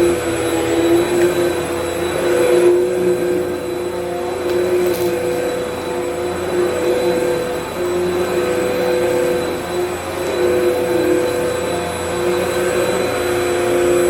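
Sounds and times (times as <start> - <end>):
upright vacuum running: 0.0 - 14.0.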